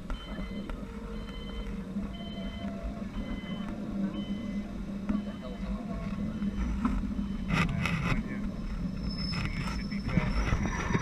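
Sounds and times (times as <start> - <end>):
engine humming: 0.0 - 11.0
high electronic warning beep: 0.1 - 7.8, 8.8 - 11.0.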